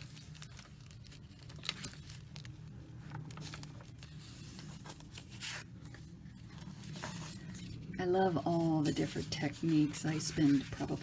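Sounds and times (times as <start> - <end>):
paper rustling and sliding: 0.0 - 11.0.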